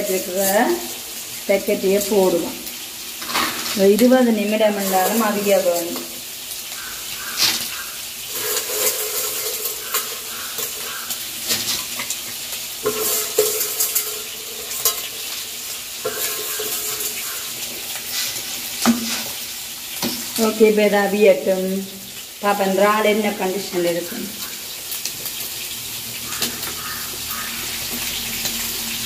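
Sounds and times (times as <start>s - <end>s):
prawns sizzling in oil: 0.0s - 29.0s
water boiling: 0.0s - 29.0s.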